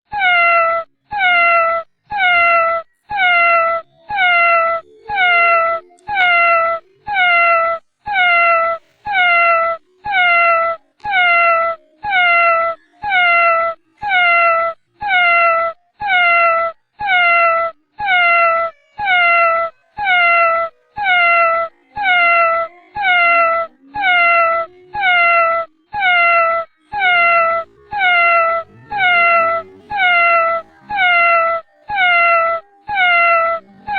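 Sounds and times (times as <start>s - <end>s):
cat meowing: 0.1s - 33.9s.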